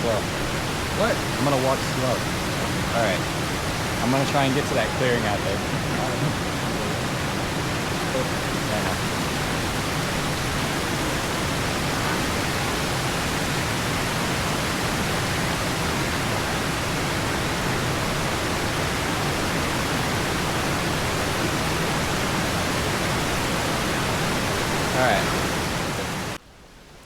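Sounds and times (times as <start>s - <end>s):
waterfall rushing: 0.0s - 26.4s.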